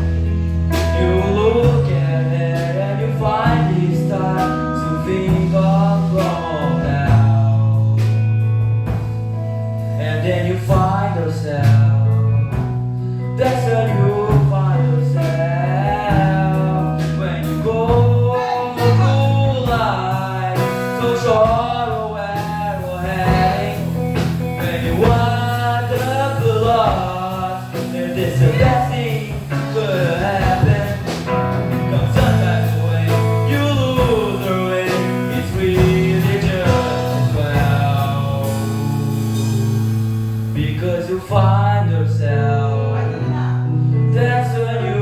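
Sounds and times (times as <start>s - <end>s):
person singing: 0.0s - 8.4s, 10.0s - 45.0s
guitar: 0.0s - 45.0s
low bass notes: 0.0s - 45.0s.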